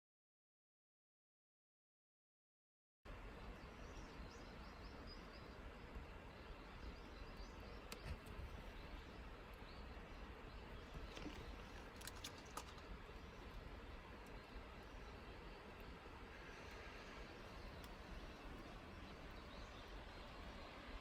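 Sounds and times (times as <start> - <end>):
steady low hiss: 3.1 - 21.0.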